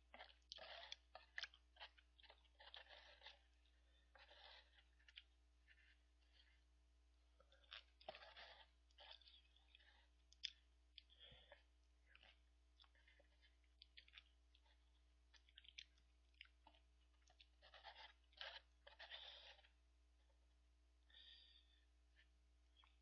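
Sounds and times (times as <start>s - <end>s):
faint chewing of noodles: 0.0s - 23.0s.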